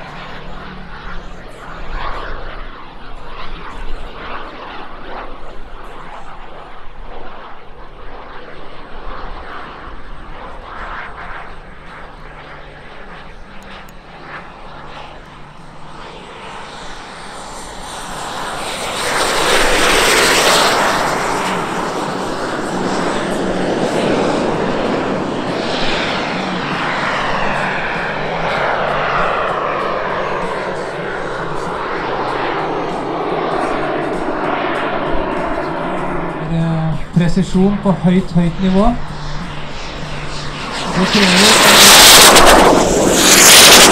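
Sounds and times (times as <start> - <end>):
model jet turbines whining: 0.0 - 43.9.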